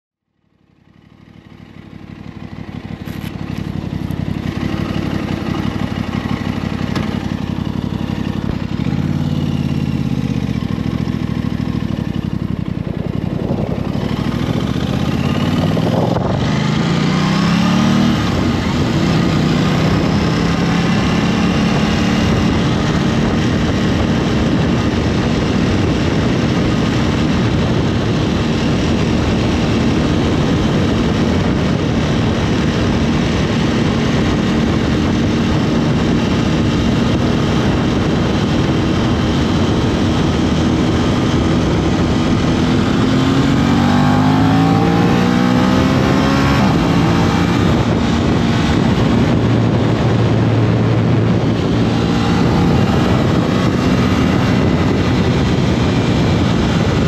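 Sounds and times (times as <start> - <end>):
motorcycle engine revving: 0.4 - 57.0.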